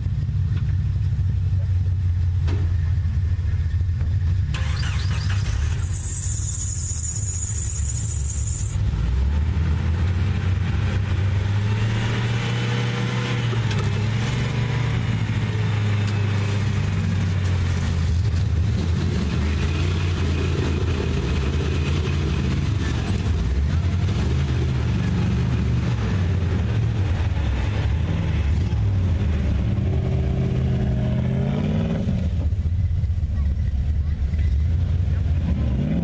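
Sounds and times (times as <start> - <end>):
truck engines running under load: 0.0 - 36.0.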